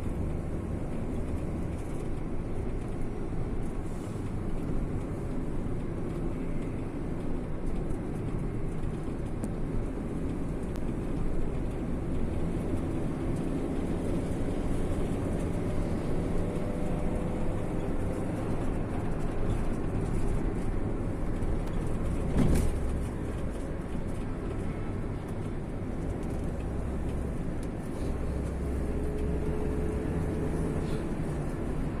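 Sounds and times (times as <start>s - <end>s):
road vehicle rumbling: 0.0s - 32.0s.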